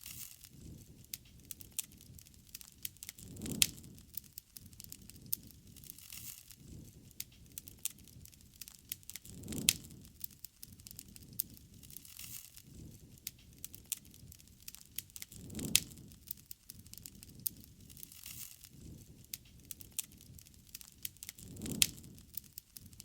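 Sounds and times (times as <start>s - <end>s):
low rush of flame: 0.0s - 23.0s
sharp pops of fire: 0.0s - 23.0s
wood fire crackling: 0.0s - 23.0s.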